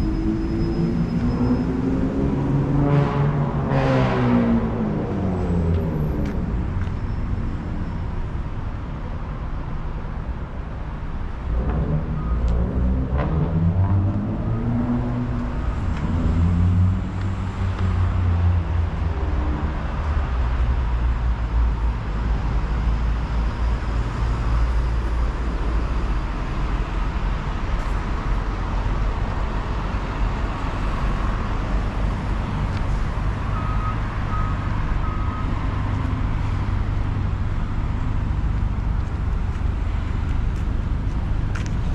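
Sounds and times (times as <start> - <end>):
vehicle pulling away and passing: 0.0 - 8.6, 11.2 - 41.9
traffic engine rumble: 0.0 - 41.9.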